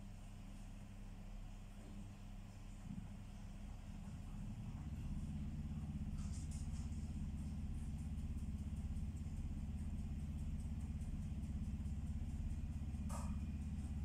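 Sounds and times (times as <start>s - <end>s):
low pulsing motor rumble: 0.0s - 14.0s.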